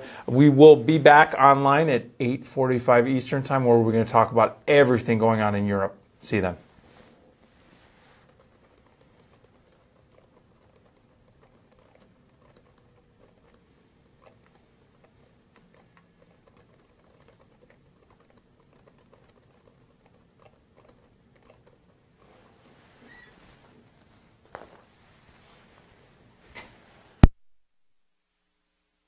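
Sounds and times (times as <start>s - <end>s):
faint steady hum: 0.0s - 27.3s.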